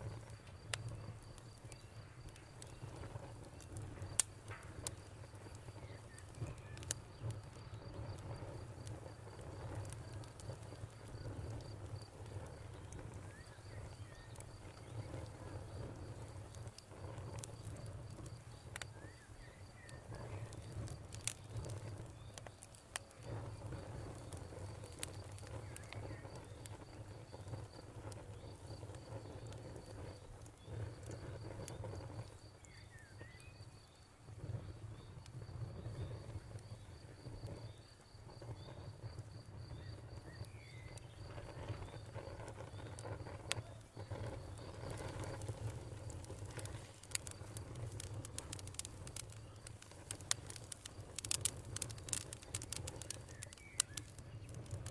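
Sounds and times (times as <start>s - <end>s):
campfire crackling and popping: 0.0s - 54.9s
cricket chirping: 0.0s - 54.9s.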